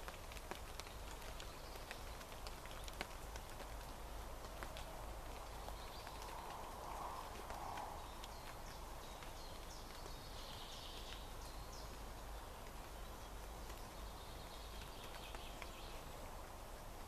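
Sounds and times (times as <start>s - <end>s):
water drips: 0.0s - 16.2s
rain hiss: 0.0s - 17.0s.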